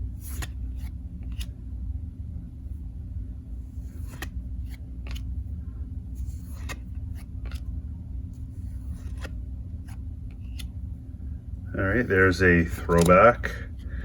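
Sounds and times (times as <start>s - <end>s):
trading cards flicking and rustling: 0.0s - 1.7s, 3.5s - 11.0s, 11.8s - 14.0s
steady low hum: 0.0s - 14.0s.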